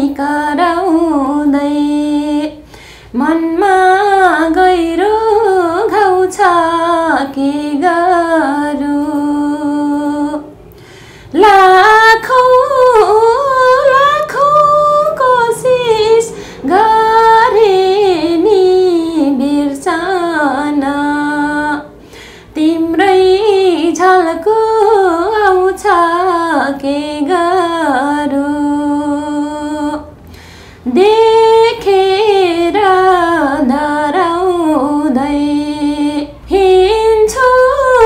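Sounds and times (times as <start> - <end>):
woman singing unaccompanied: 0.0 - 10.7, 11.3 - 38.0.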